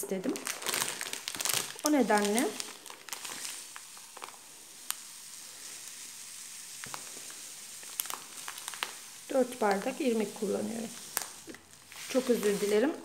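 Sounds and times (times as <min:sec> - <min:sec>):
dry grains pouring into glass: 0:00.9 - 0:13.0.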